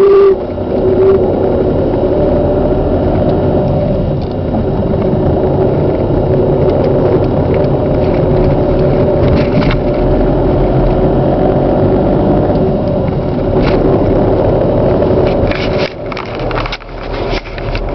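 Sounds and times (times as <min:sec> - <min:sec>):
car engine rumble accelerating: 0:00.0 - 0:17.9
steady whining tones: 0:00.0 - 0:17.9.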